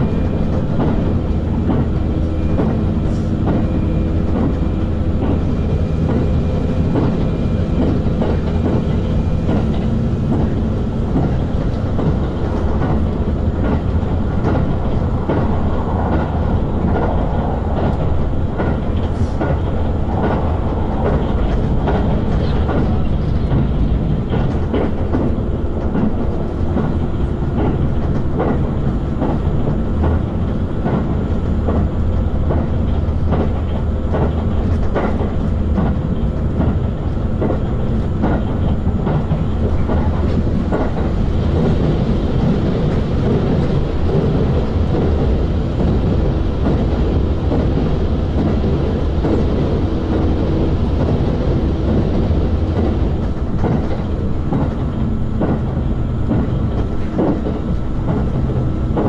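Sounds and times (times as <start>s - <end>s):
train rolling rumble: 0.0s - 59.0s
wheels clacking over rail joints: 0.0s - 59.0s.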